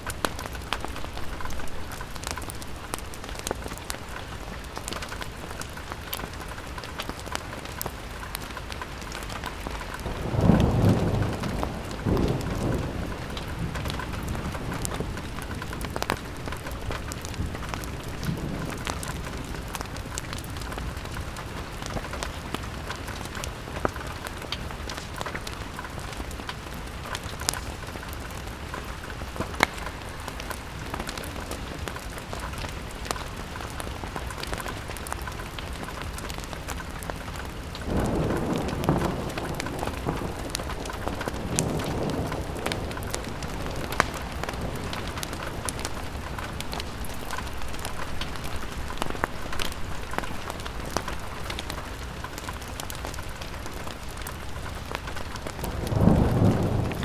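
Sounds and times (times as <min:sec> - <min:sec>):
rain on window glass: 0:00.0 - 0:57.0
thunder rumble: 0:00.0 - 0:57.0.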